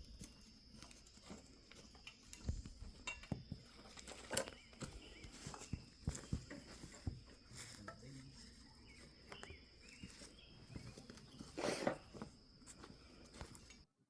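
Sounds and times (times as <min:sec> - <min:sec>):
footsteps: 0:00.0 - 0:13.9.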